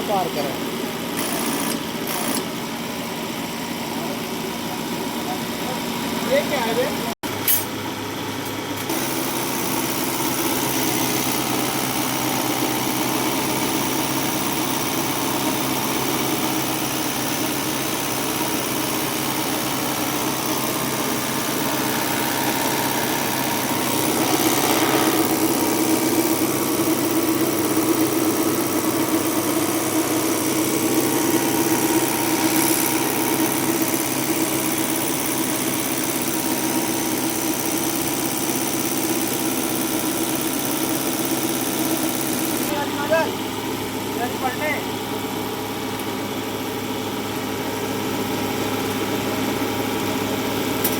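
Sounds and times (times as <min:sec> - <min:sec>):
tractor diesel engine idling: 0:08.9 - 0:50.8.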